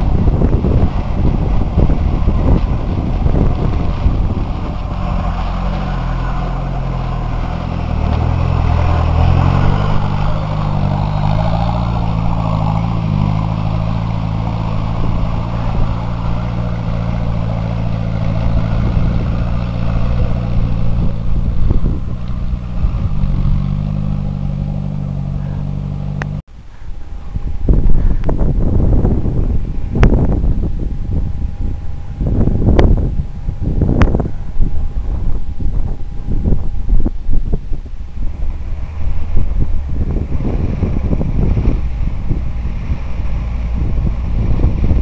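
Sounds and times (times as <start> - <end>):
off-road vehicle engine under load: 0.0 - 45.0.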